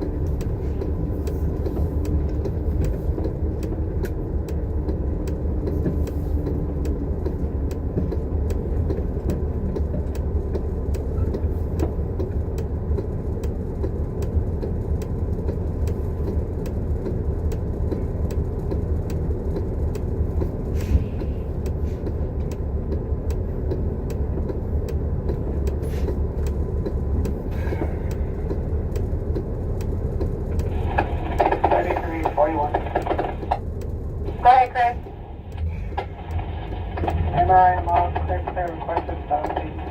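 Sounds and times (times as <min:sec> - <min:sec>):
bus engine and road rumble: 0:00.0 - 0:39.9
faint regular ticking: 0:00.0 - 0:39.9.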